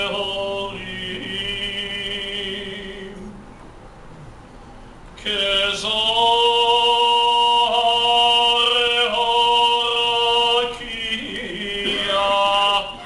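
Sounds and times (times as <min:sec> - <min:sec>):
man chanting: 0:00.0 - 0:03.3, 0:05.2 - 0:13.0.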